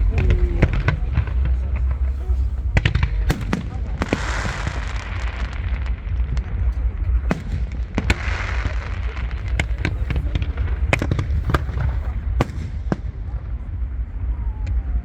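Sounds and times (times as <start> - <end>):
fireworks cracks and bangs: 0.0 - 15.0
low rumble: 0.0 - 15.0.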